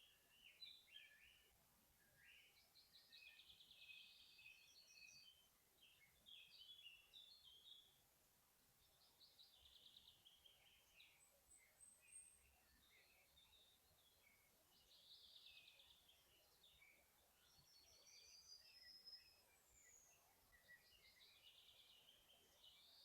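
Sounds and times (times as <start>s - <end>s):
faint songbirds singing: 0.0s - 23.0s.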